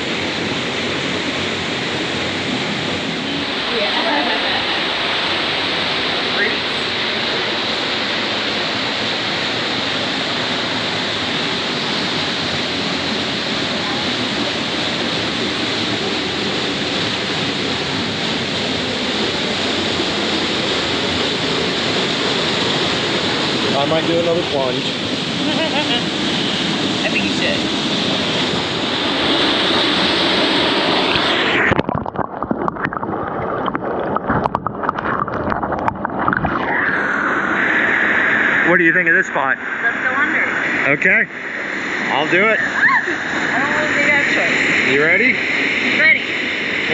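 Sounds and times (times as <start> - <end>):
muffled gurgling water: 0.0 - 46.9
waterfall rushing: 0.0 - 46.9.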